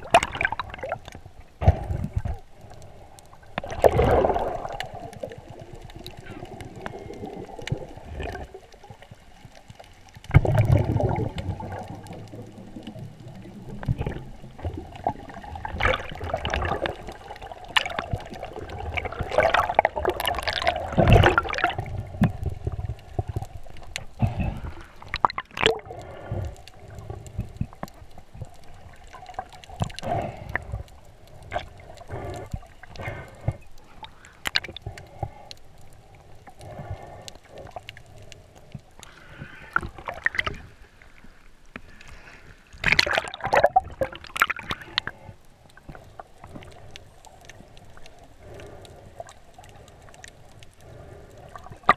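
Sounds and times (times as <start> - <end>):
underwater swishing and gurgling: 0.0 - 51.9.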